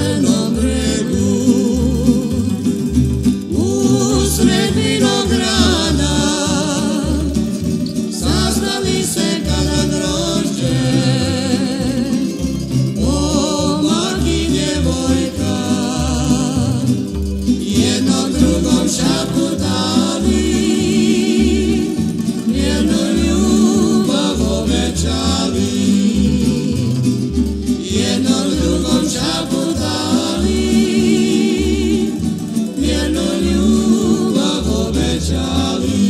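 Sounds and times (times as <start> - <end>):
plucked strings: 0.0 - 36.0
pulsing bass: 0.0 - 36.0
voices singing together: 0.0 - 36.0.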